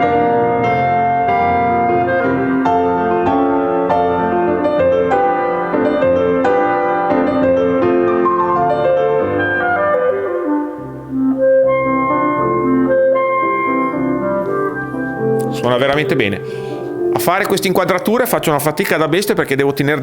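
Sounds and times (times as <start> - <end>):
classical piano music over loudspeakers: 0.0 - 20.0.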